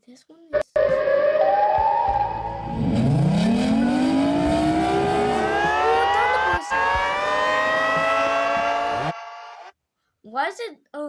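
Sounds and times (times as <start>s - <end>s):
civil defense siren winding up: 0.8s - 9.7s.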